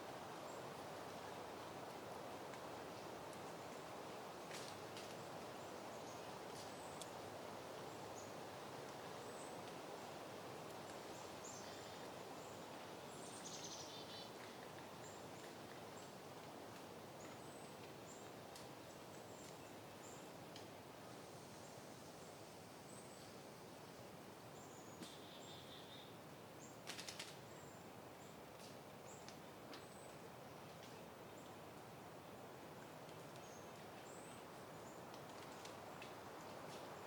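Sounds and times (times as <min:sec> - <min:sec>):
wind rustling through plants: 0:00.0 - 0:37.0.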